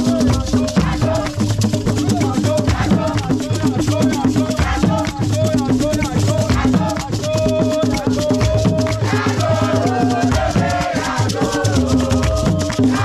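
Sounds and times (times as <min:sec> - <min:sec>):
group singing: 0:00.0 - 0:13.0
hand claps: 0:00.0 - 0:13.0
hand drums playing: 0:00.0 - 0:13.0
shaker rattling: 0:00.0 - 0:13.0.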